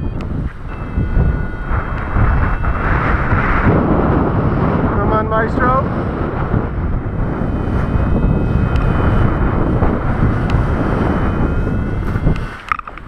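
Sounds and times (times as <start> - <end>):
heavy wind on microphone: 0.0 - 13.0.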